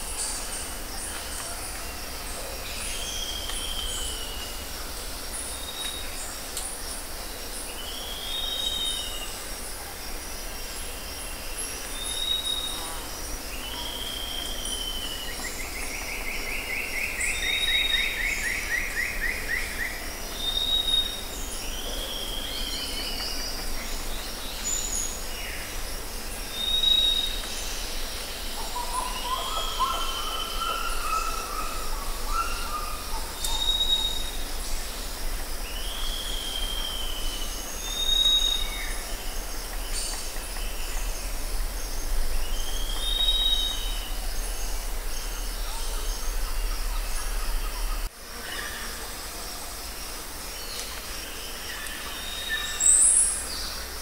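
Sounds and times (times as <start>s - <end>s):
insects hissing: 0.0s - 54.0s.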